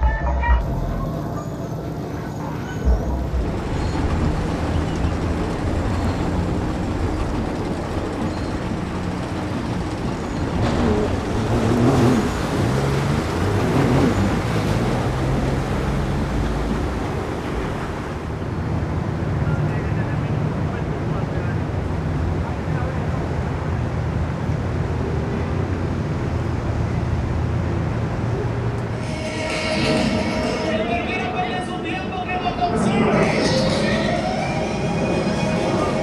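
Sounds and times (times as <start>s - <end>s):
engines running: 0.0s - 36.0s
low hum shifting in pitch: 0.0s - 36.0s
outdoor noise: 0.0s - 36.0s.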